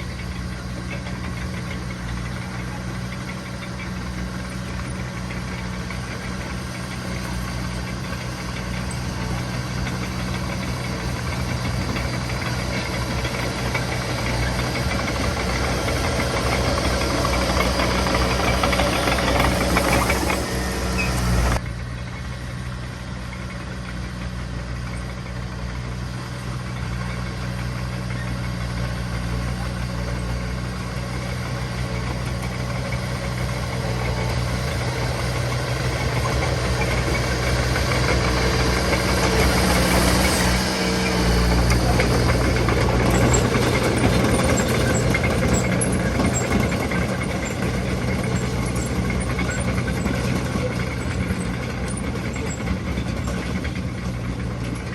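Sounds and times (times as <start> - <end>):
diesel engine humming: 0.0 - 54.9.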